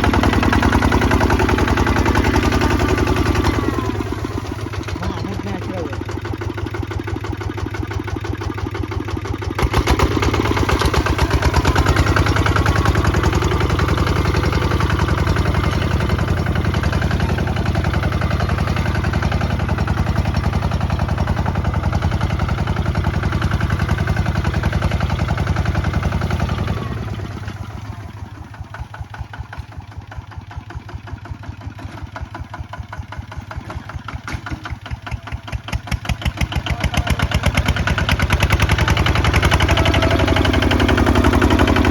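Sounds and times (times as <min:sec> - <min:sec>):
single-cylinder diesel engine running: 0:00.0 - 0:41.9.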